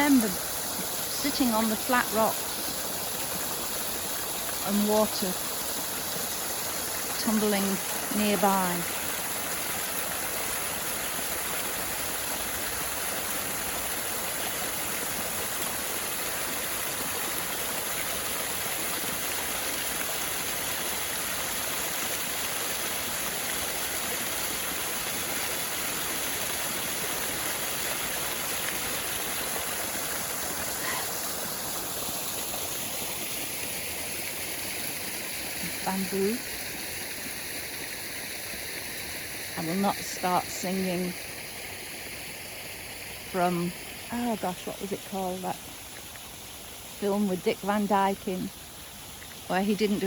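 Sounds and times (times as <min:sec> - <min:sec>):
garden waterfall running: 0:00.0 - 0:50.0.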